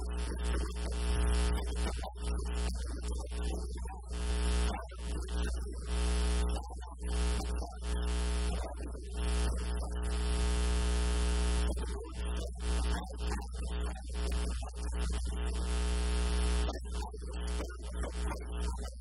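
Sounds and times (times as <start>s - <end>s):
loud steady electrical hum: 0.0s - 19.0s.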